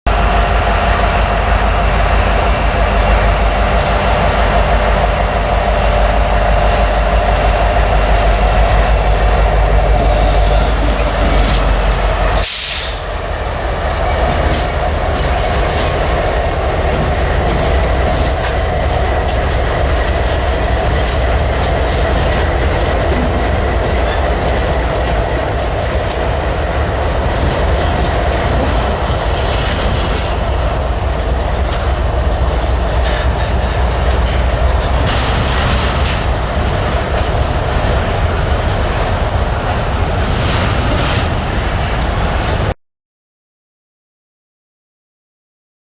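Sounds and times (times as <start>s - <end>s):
high wheel squeal: 0.1s - 26.0s, 27.6s - 42.7s
train wheels rumbling and clattering: 0.1s - 42.8s.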